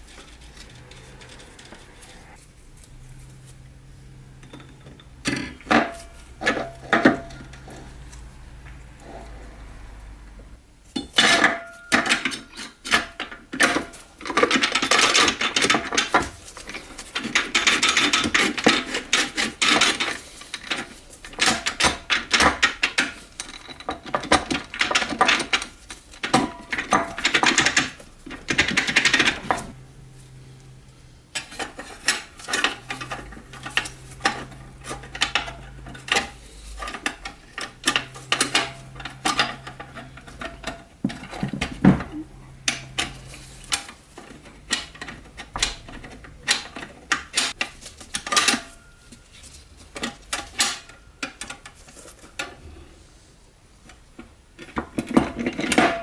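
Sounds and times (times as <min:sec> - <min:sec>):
metal parts clinking and scraping: 0:00.0 - 0:10.2, 0:11.0 - 0:52.6.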